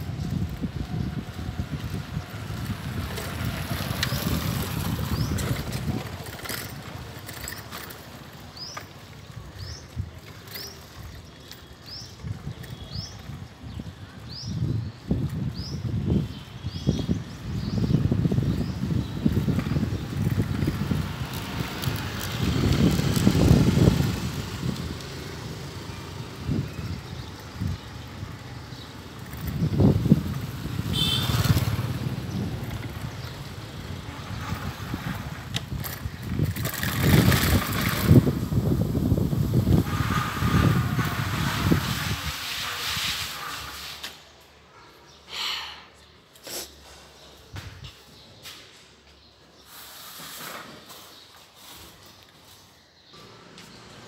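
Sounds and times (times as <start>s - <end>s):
wind and rolling noise: 0.0s - 44.7s, 46.8s - 54.0s.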